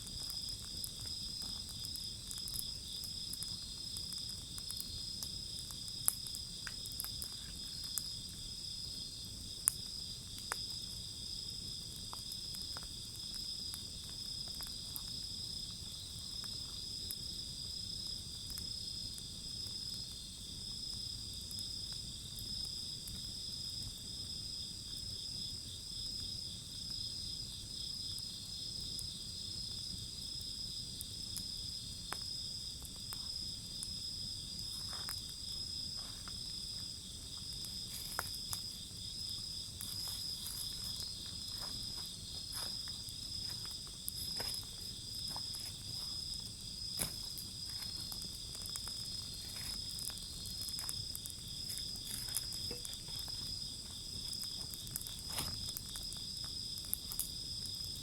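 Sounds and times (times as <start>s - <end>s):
crickets chirping: 0.0s - 58.0s
wood fire crackling: 0.0s - 58.0s.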